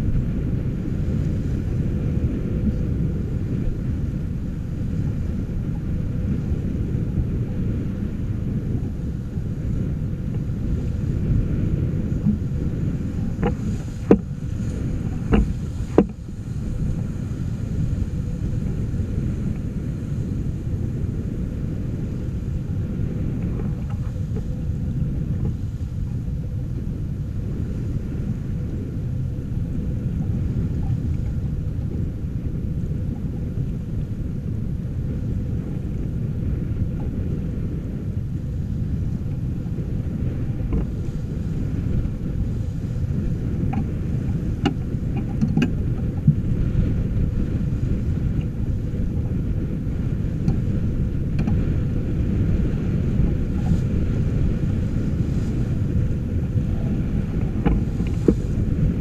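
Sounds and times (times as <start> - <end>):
water rushing along hull: 0.0 - 59.0
wind buffeting microphone: 0.0 - 59.0.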